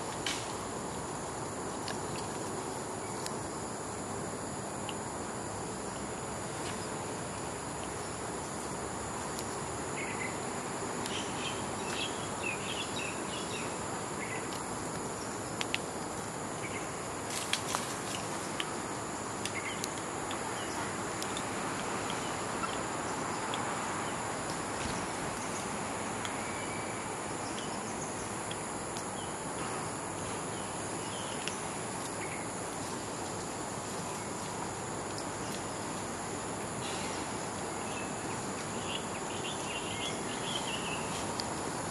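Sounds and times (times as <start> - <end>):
background hiss: 0.0 - 41.9.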